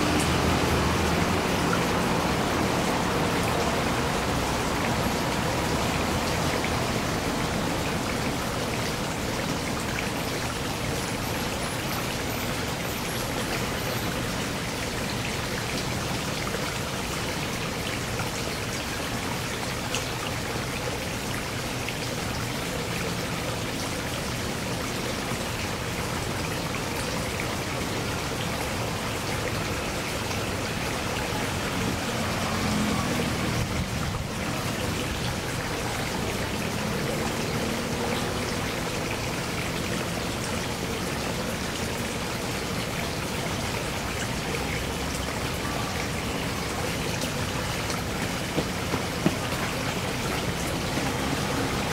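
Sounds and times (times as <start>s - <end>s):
water trickling into pond: 0.0s - 51.9s.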